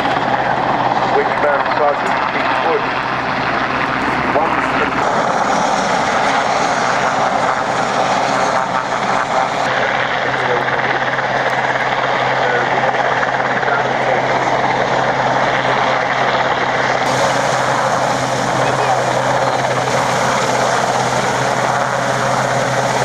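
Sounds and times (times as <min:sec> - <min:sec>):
helicopter rotor and turbines: 0:00.0 - 0:23.0.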